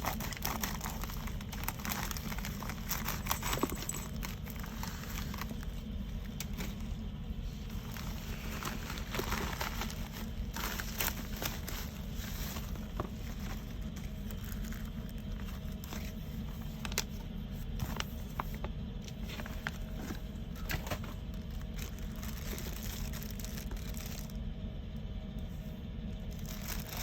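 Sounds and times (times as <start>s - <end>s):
packaging clicks and rustles: 0.0s - 24.4s, 26.3s - 27.0s
steady low hum: 0.0s - 27.0s.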